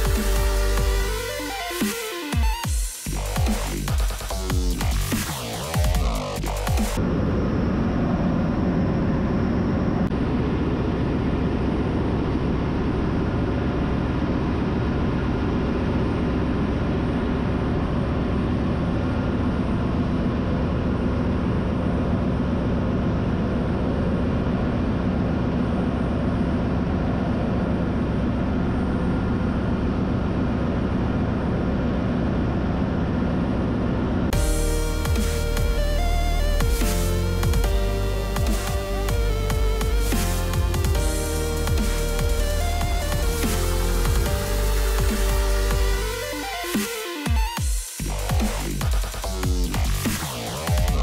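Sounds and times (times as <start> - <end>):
engine room machinery drone: 0.0 - 51.0.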